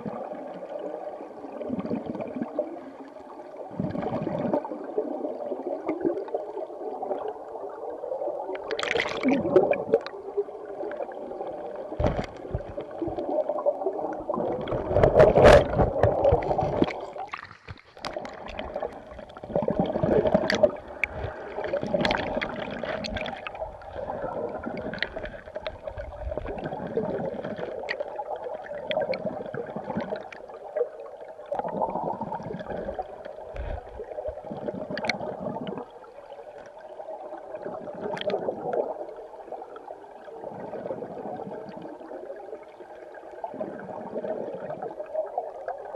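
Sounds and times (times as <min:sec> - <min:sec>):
muffled underwater river gurgling: 0:00.0 - 0:45.9.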